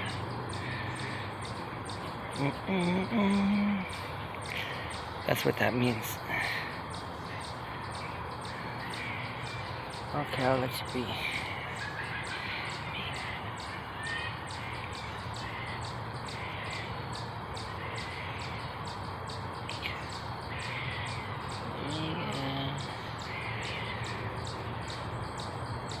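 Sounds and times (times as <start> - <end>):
birds calling: 0.0 - 26.0
low background noise: 0.0 - 26.0.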